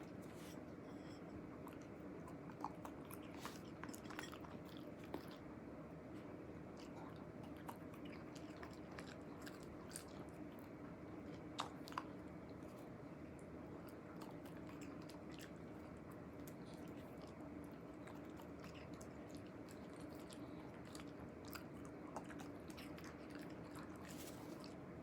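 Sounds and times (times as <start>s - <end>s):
faint room hum: 0.0s - 25.0s.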